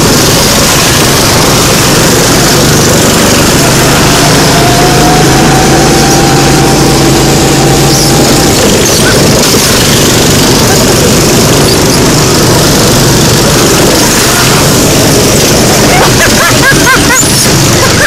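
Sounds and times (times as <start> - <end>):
go-kart engines running: 0.0 - 18.0.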